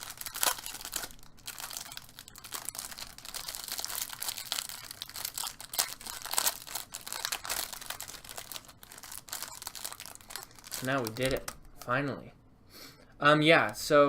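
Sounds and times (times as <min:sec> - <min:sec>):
wrappers crinkling and tearing: 0:00.0 - 0:12.0.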